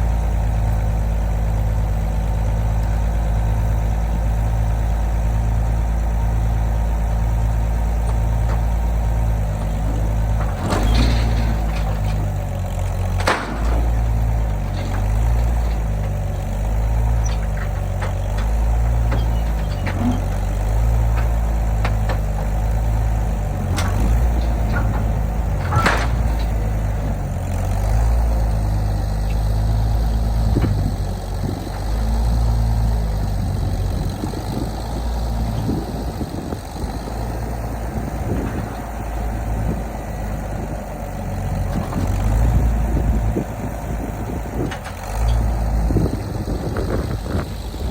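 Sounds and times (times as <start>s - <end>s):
engine low rumble: 0.0s - 47.9s.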